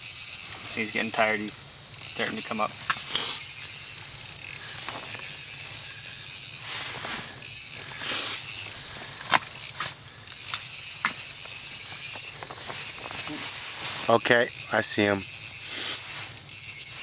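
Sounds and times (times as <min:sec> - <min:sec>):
fishing reel ticking: 0:00.0 - 0:17.0
steady hiss: 0:00.0 - 0:17.0.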